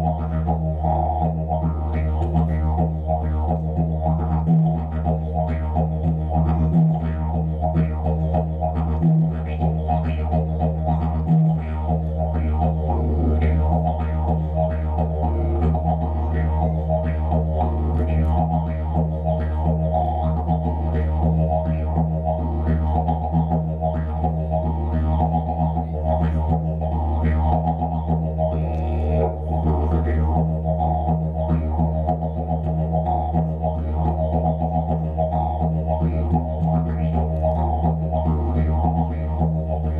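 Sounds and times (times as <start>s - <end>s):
didgeridoo drone: 0.0s - 39.9s.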